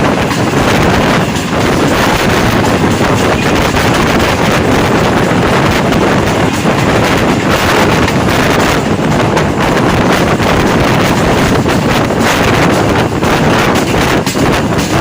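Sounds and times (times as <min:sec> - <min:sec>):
train rumbling on track: 0:00.0 - 0:15.0
wind buffeting microphone: 0:00.0 - 0:15.0.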